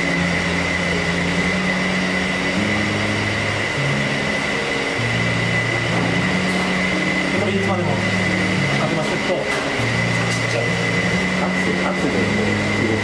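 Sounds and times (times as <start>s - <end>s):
high-pitched whine: 0.0s - 13.0s
kitchen equipment running: 0.0s - 13.0s
low droning tones: 0.0s - 13.0s.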